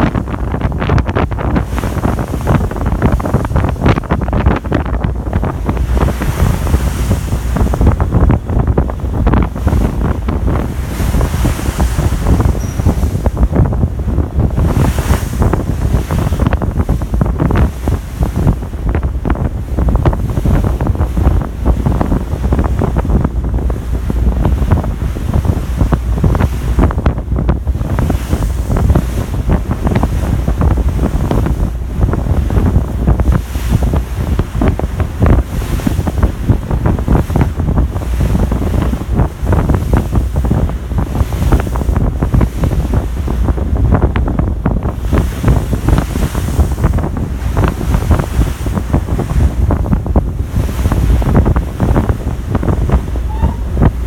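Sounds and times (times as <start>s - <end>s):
sea rushing: 0.0s - 54.0s
wind buffeting microphone: 0.0s - 54.0s.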